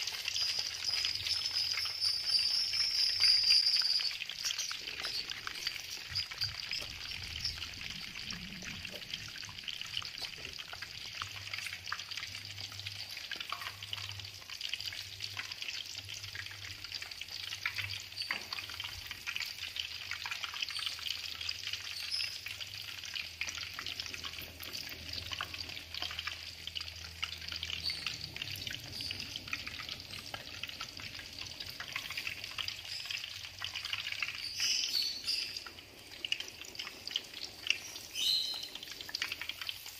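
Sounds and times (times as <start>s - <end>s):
food deep-frying in oil: 0.0s - 39.9s.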